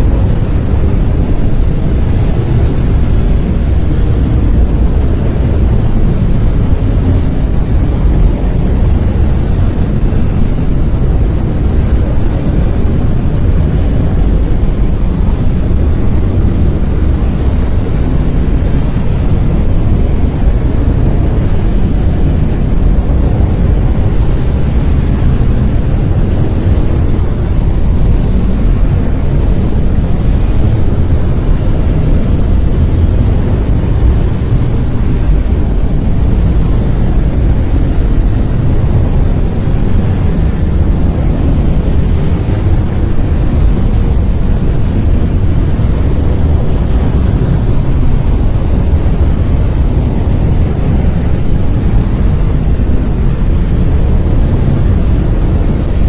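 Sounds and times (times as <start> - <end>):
brown noise deep rumbling hiss: 0.0 - 56.0.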